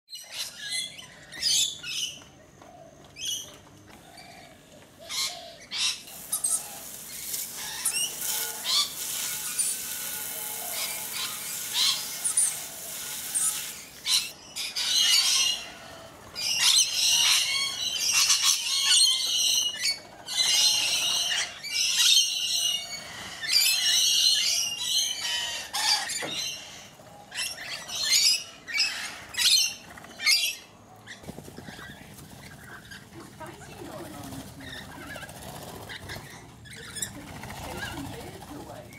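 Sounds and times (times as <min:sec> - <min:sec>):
lorikeets screeching and chattering: 0:00.1 - 0:02.2, 0:03.2 - 0:38.9.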